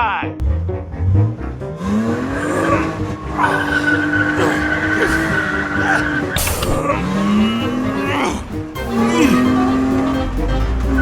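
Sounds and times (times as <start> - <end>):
car engine running: 0.4 - 11.0
tyres skidding: 0.4 - 11.0.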